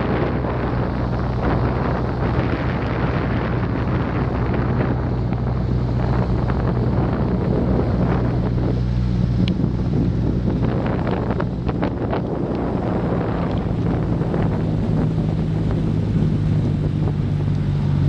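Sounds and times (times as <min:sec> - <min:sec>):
boat motor humming: 0:00.0 - 0:18.0
wind noise on microphone: 0:00.0 - 0:18.0.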